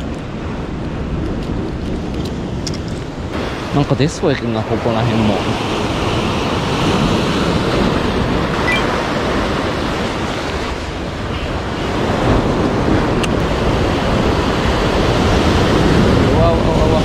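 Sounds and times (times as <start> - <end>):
waves breaking on rocky shore: 0.0 - 17.0
wind buffeting microphone: 0.0 - 17.0.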